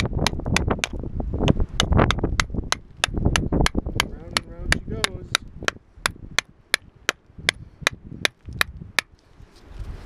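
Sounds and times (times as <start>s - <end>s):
hammer striking steel chisel on rock: 0.0s - 9.1s.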